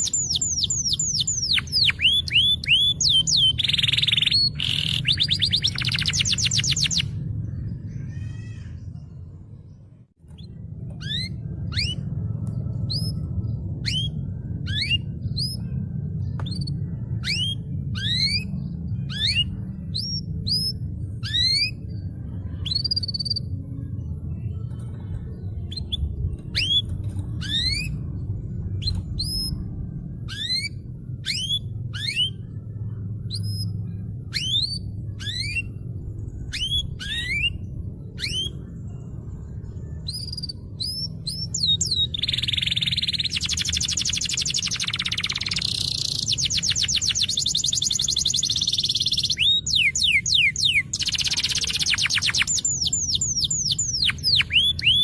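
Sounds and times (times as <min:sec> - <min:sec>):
low rumble: 0:00.0 - 0:55.0.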